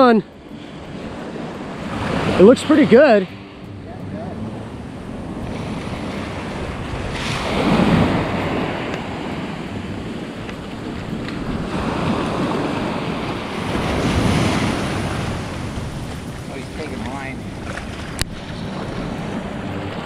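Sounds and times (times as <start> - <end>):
sea water washing: 0.0 - 20.0
wind buffeting microphone: 0.0 - 20.0.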